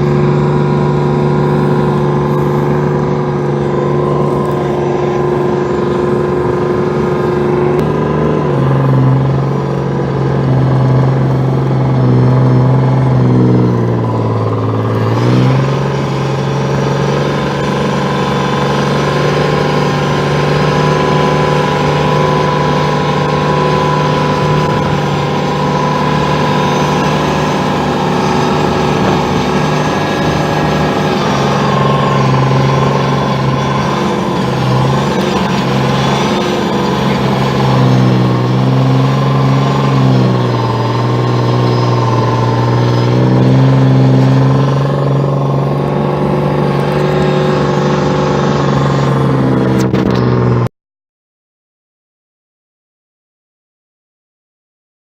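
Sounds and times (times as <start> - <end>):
tracked vehicle engine from inside: 0.0 - 50.7.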